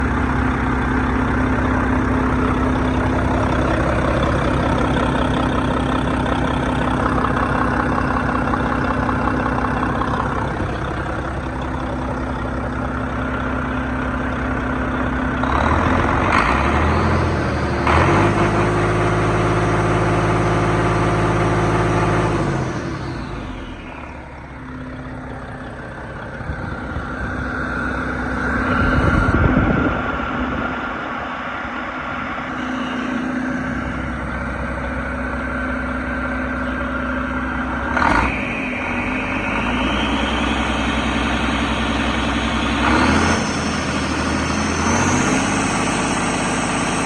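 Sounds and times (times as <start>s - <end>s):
diesel engine idling and revving: 0.0s - 47.0s.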